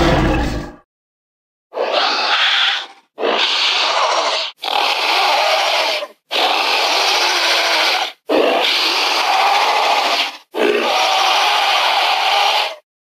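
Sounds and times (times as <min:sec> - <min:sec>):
harsh hoarse dinosaur roar: 0:00.0 - 0:00.8, 0:01.8 - 0:12.8.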